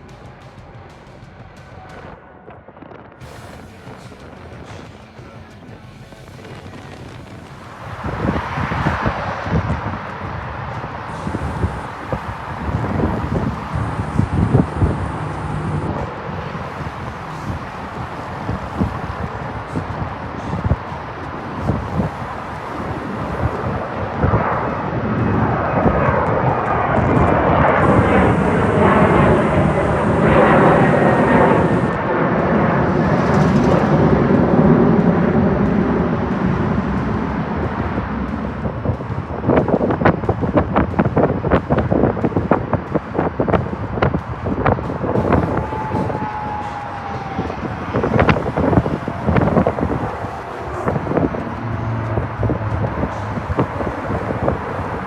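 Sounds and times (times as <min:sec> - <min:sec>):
jet engines roaring: 0:00.0 - 0:55.0
low hum: 0:00.0 - 0:55.0
wind buffeting microphone: 0:00.0 - 0:55.0
faint engine whine: 0:03.2 - 0:55.0.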